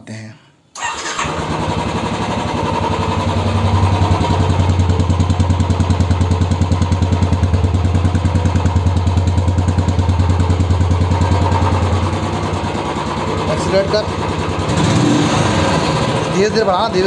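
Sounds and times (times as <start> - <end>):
motorcycle engine idling: 1.0 - 17.0.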